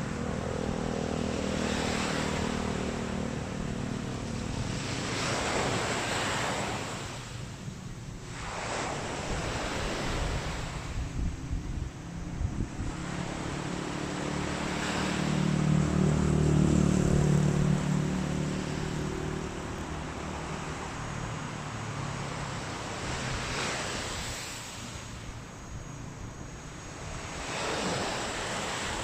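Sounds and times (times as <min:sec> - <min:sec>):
engine humming past: 0:00.0 - 0:07.5, 0:08.3 - 0:29.0
waves washing on beach: 0:00.0 - 0:29.0.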